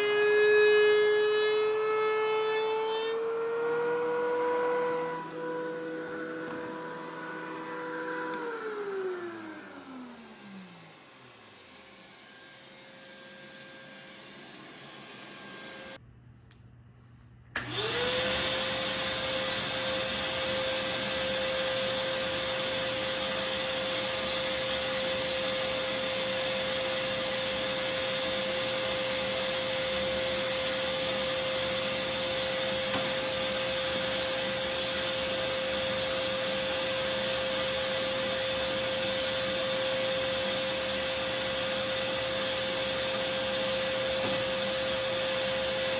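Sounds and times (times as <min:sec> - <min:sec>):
electric motor whirring: 0:00.0 - 0:16.0, 0:17.6 - 0:45.9.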